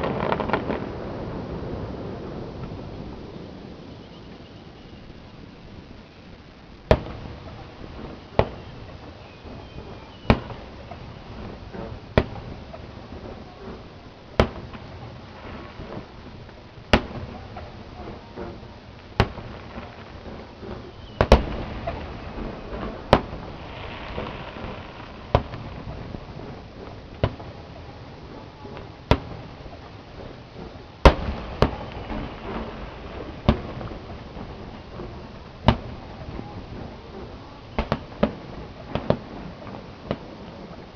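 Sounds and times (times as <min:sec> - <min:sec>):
fireworks bursting: 0:00.0 - 0:40.9
steady background noise: 0:00.0 - 0:40.9.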